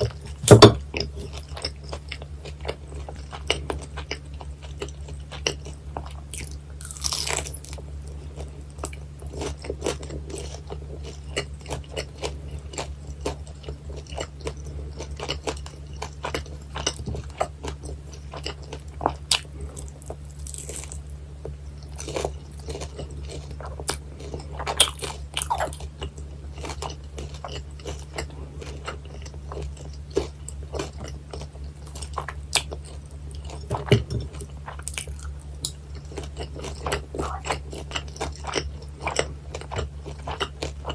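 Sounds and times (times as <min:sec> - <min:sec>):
crunchy bites and chewing: 0:00.0 - 0:40.9
steady low hum: 0:00.0 - 0:40.9.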